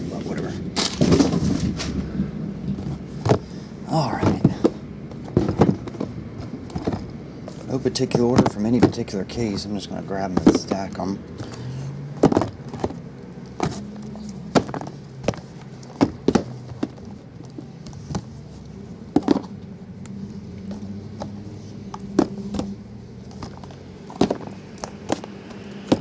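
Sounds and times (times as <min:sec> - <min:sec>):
steady low hum: 0:00.0 - 0:26.0
cardboard boxes tapping and knocking: 0:00.8 - 0:01.9, 0:02.7 - 0:18.3, 0:19.1 - 0:19.6, 0:20.6 - 0:26.0.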